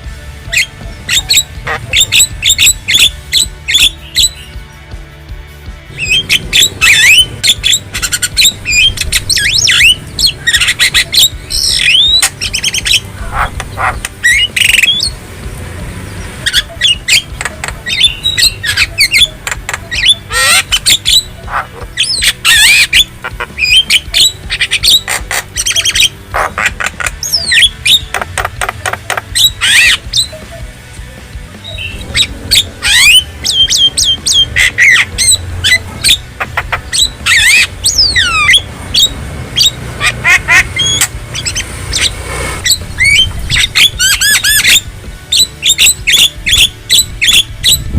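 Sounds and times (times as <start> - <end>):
bird whistles and squawks: 0.4 - 4.5, 5.9 - 15.2, 16.4 - 30.7, 31.6 - 47.9.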